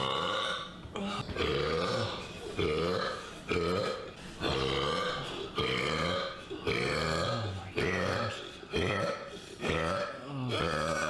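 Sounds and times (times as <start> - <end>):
person belching deeply: 0.0 - 11.0.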